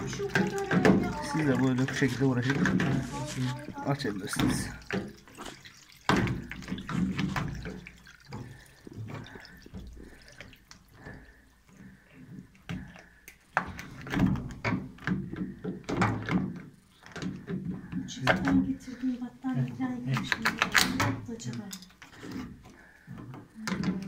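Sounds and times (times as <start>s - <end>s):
water dripping and sloshing: 0.0s - 24.0s.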